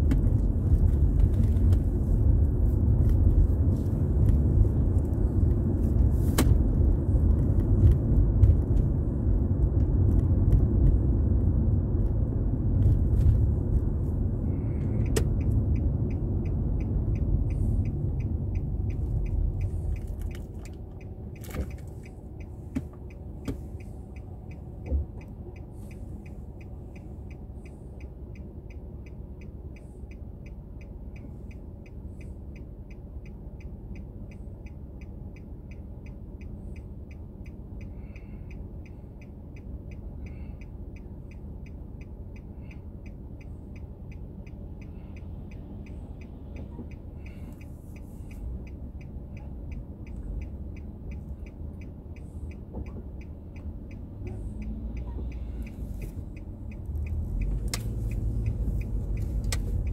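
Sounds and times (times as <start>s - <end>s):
road and tyre rumble in car: 0.0s - 59.9s
turn signal ticking: 0.0s - 59.9s.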